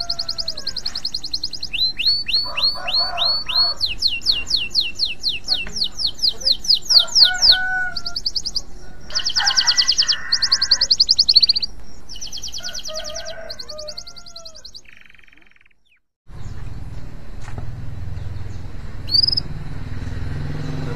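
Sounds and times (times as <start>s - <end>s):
canary singing trills: 0.0s - 16.8s, 18.2s - 19.6s.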